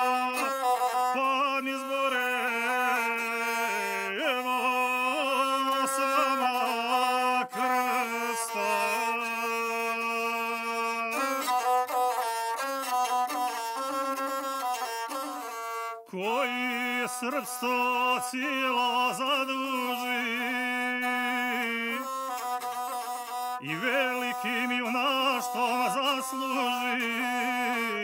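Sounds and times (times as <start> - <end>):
bowed fiddle melody: 0.0 - 28.0
person singing: 0.0 - 28.0.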